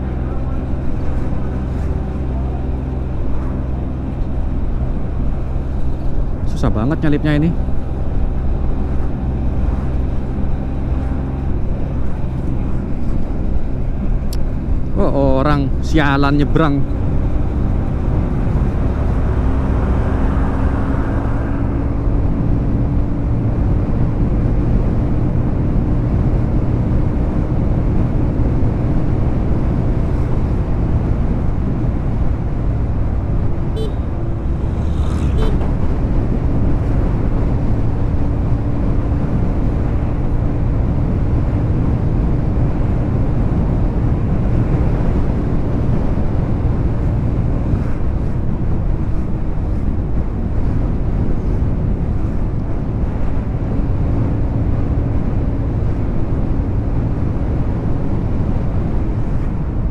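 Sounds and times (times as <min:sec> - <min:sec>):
motorcycle engine humming: 0:00.0 - 0:59.9
wind rumble on microphone: 0:00.0 - 0:59.9.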